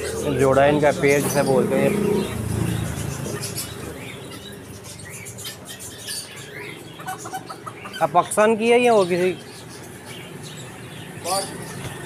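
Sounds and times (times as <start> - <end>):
bird market din: 0.0 - 12.0
birds chirping: 0.0 - 12.0.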